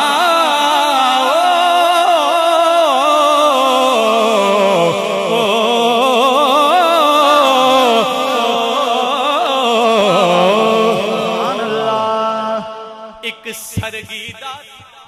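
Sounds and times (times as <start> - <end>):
man singing melisma: 0.0 - 15.0.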